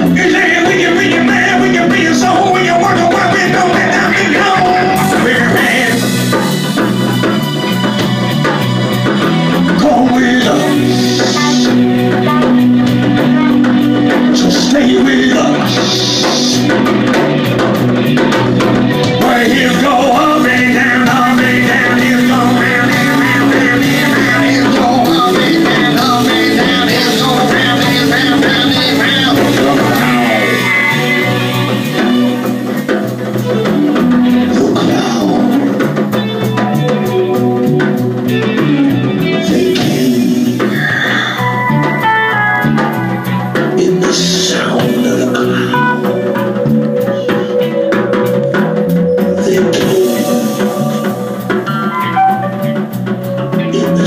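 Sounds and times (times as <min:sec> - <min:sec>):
bass line: 0:00.0 - 0:54.0
drum kit: 0:00.0 - 0:54.0
guitar: 0:00.0 - 0:54.0.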